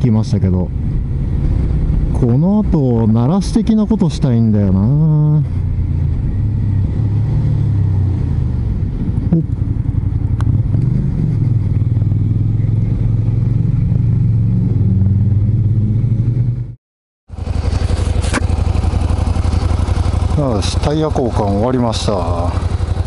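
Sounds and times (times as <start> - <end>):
motorcycle engine running: 0.7 - 23.0.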